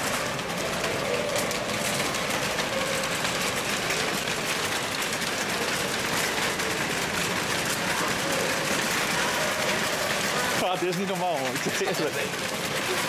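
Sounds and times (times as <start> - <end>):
shopping carts rattling over bricks: 0.0 - 13.0.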